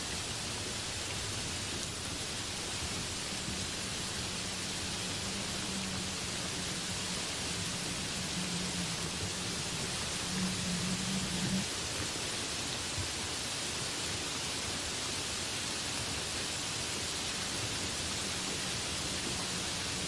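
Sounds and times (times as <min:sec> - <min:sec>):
heavy rain on leaves: 0:00.0 - 0:20.0.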